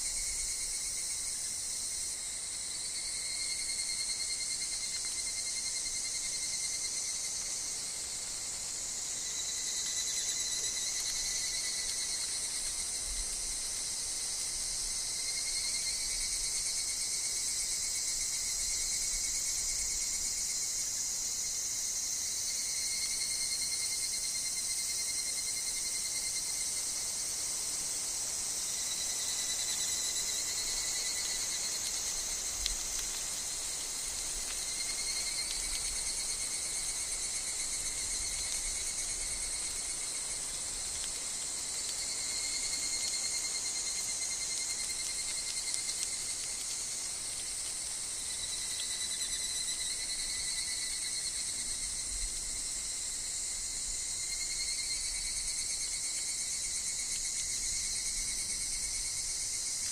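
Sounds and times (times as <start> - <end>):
cicadas shrilling: 0.0 - 59.9
insects trilling: 0.0 - 59.9.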